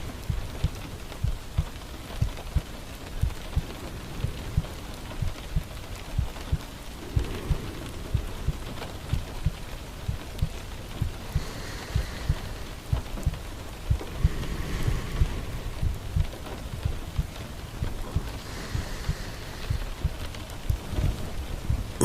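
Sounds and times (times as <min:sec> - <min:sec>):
heartbeat thumps: 0:00.0 - 0:22.0
steady rain falling: 0:00.0 - 0:22.0.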